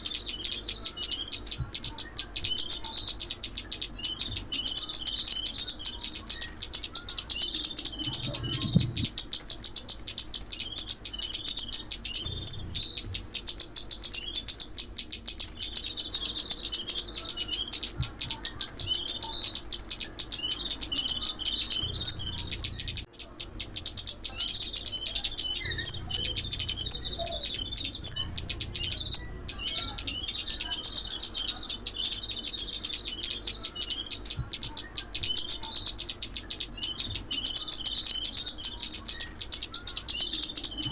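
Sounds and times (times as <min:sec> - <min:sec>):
thin sustained whistle: 0:00.0 - 0:23.1, 0:23.8 - 0:36.0
songbird twittering and chipping: 0:00.0 - 0:40.9.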